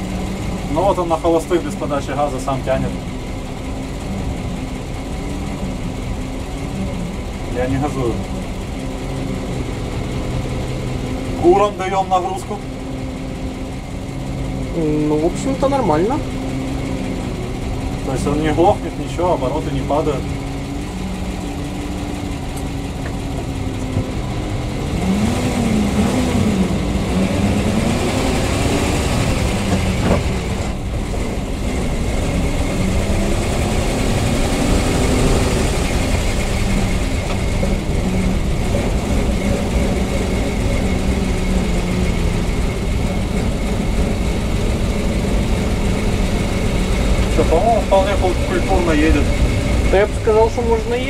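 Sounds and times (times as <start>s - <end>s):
bus engine revving: 0.0s - 51.0s.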